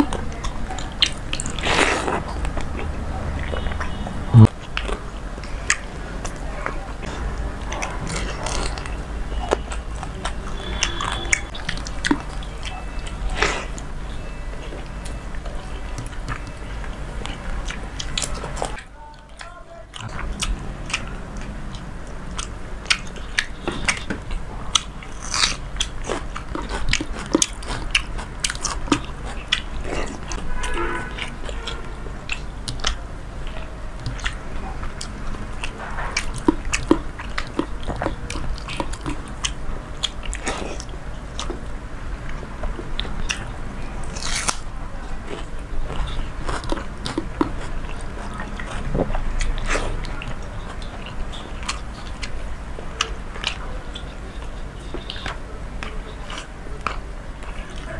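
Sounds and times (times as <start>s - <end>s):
crisp crunching and chewing: 0.0s - 57.9s.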